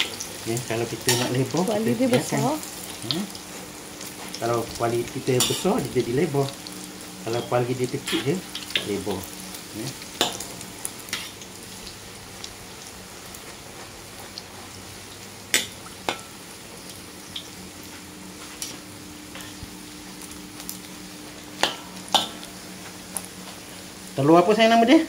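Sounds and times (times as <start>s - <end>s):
batter deep-frying in oil: 0.0s - 25.0s.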